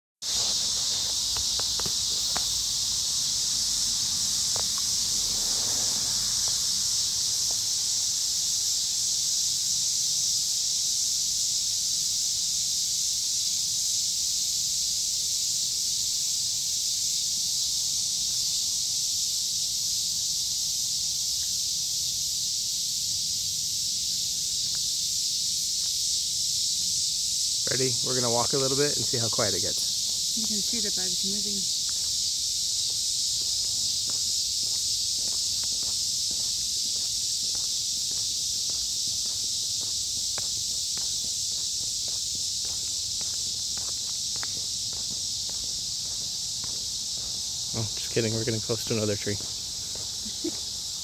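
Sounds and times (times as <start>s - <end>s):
cicadas screaming: 0.2s - 51.0s.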